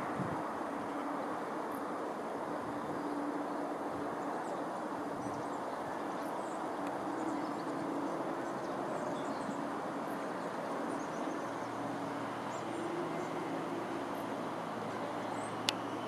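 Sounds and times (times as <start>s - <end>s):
electric train hum and rumble: 0.0s - 16.0s
faint birds chirping: 0.6s - 16.0s.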